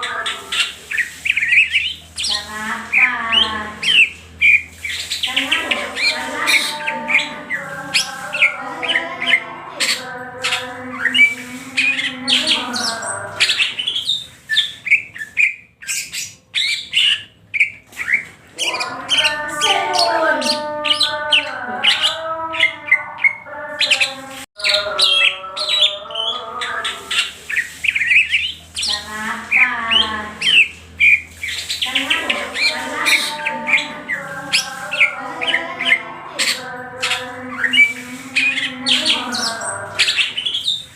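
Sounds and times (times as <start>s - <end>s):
bird singing fast chirps and whistles: 0.0s - 40.9s.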